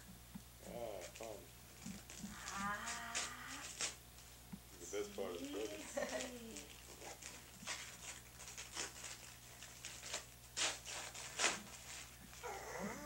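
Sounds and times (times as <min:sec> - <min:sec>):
wrapping paper crinkling and tearing: 0:00.8 - 0:04.0, 0:04.9 - 0:12.6.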